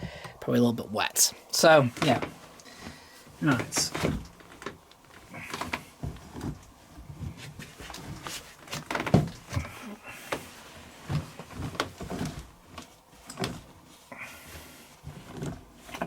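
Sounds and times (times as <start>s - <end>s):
fabric rustling: 1.5s - 16.0s.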